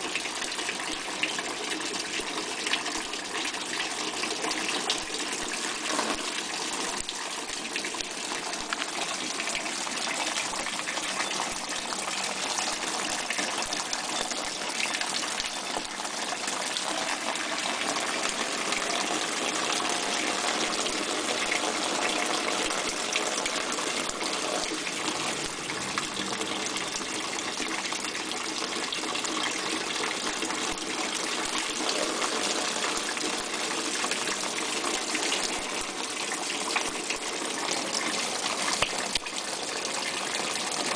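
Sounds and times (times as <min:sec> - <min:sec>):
water spraying and splashing: 0:02.9 - 0:40.9.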